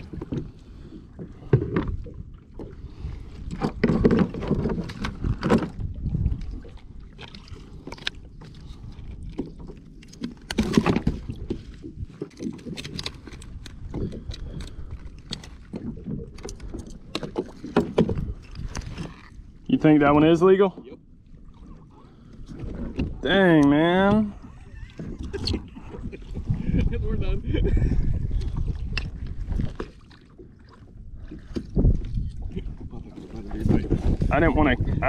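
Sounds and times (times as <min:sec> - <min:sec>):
water around kayak: 0:00.0 - 0:35.0.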